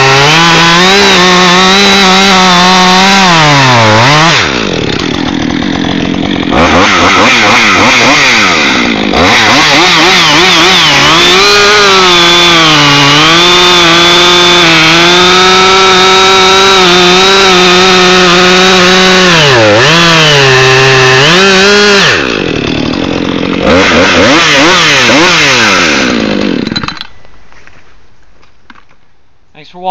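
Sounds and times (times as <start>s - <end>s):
chainsaw revving and cutting: 0.0s - 27.0s.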